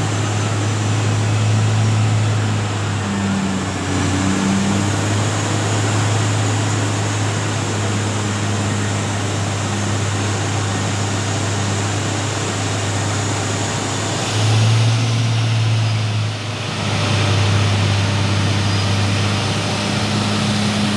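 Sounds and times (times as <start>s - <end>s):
milling machine running: 0.0s - 20.9s.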